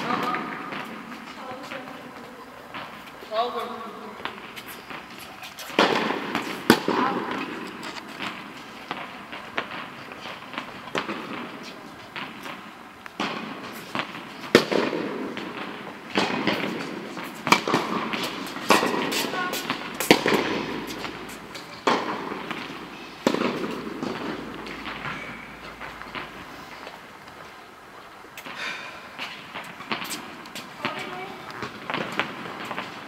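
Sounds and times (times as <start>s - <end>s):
tennis balls struck by rackets: 0.0s - 27.5s, 29.2s - 33.0s.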